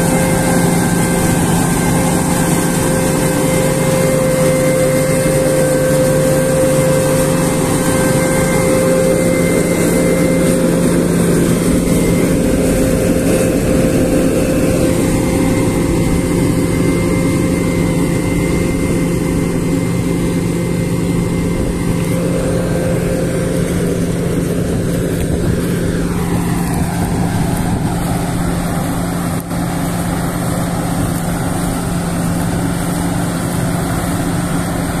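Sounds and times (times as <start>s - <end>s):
combine harvester drone: 0.0s - 35.0s
high machine whine: 0.0s - 35.0s.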